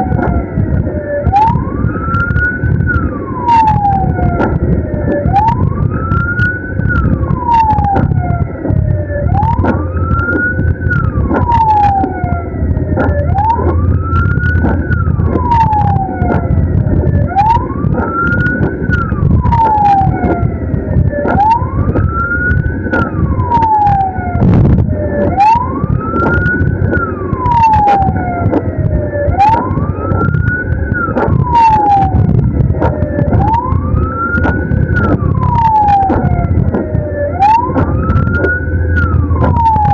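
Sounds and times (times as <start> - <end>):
ambulance siren wailing: 0.0 - 39.9
engine and road noise: 0.0 - 39.9.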